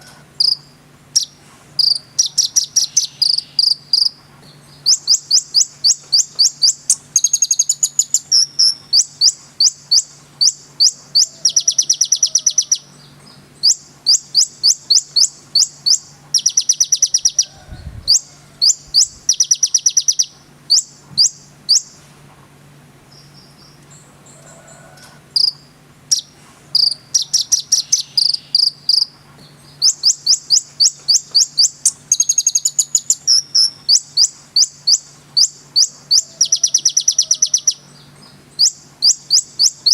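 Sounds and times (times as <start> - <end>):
songbird chirping and trilling: 0.0 - 22.1, 23.0 - 39.9.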